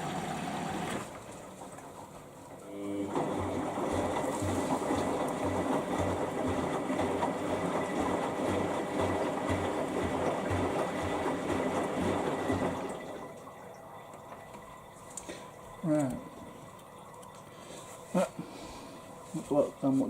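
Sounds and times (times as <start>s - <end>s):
washing machine churning: 0.0s - 20.0s.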